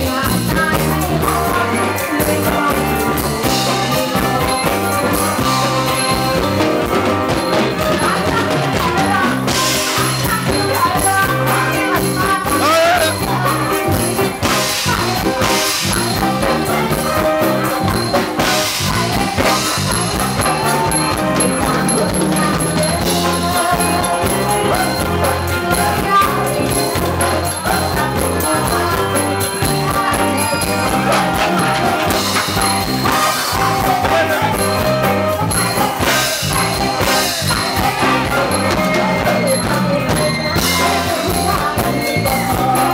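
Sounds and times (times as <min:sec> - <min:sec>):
live band playing: 0:00.0 - 0:42.9
man singing: 0:00.0 - 0:42.9.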